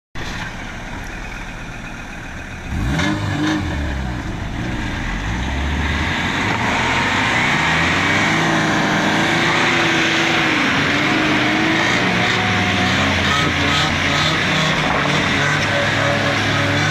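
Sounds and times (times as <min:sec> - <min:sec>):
car engine revving: 0:00.2 - 0:16.9.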